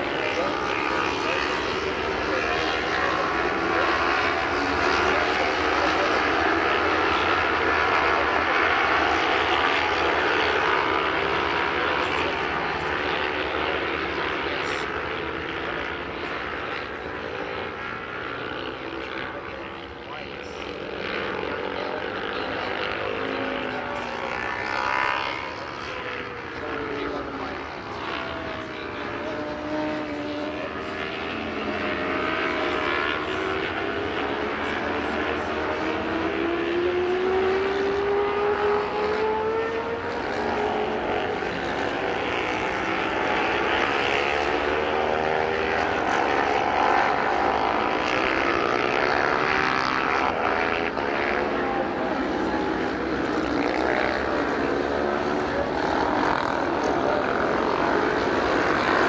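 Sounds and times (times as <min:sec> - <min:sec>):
racing motorcycle engines: 0:00.0 - 0:59.0.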